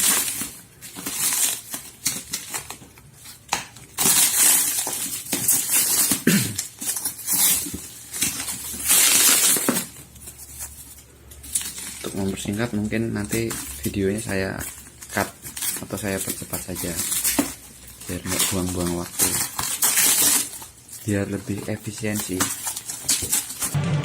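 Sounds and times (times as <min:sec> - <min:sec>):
plastic packaging rustling and crinkling: 0:00.0 - 0:23.8.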